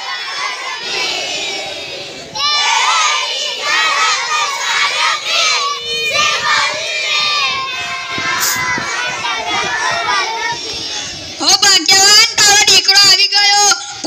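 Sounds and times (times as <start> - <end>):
children shouting and cheering: 0.0 - 12.6.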